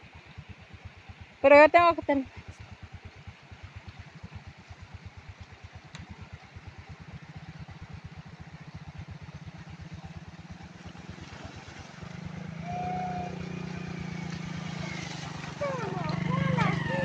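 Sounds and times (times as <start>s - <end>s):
water splashing: 1.5s - 17.0s.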